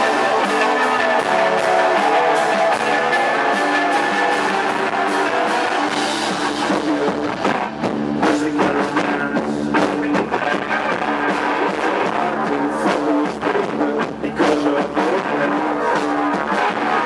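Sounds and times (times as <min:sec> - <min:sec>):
electric guitar notes: 0:00.0 - 0:14.3
drum-kit beat: 0:00.0 - 0:17.0.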